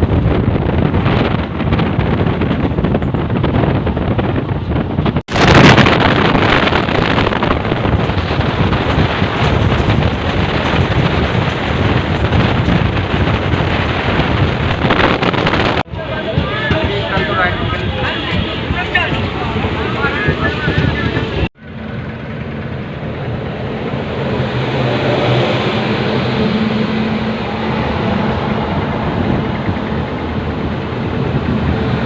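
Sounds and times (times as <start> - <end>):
wind blowing on microphone: 0.0 - 21.5, 24.8 - 32.0
train running noise: 0.0 - 32.0.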